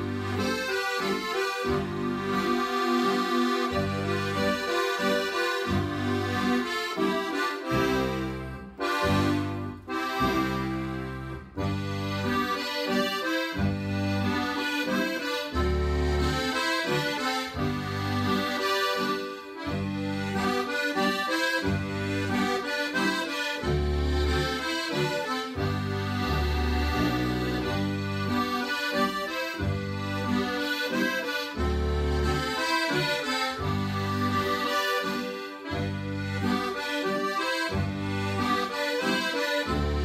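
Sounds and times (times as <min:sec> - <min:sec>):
button accordion playing a tune: 0:00.0 - 0:40.0.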